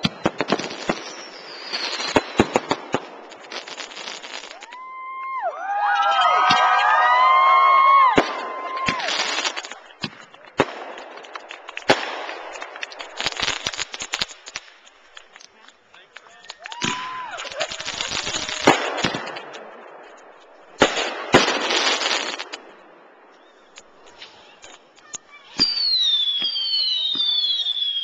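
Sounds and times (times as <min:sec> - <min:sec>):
firework bangs: 0:00.0 - 0:28.0
firework crackling: 0:00.0 - 0:28.0.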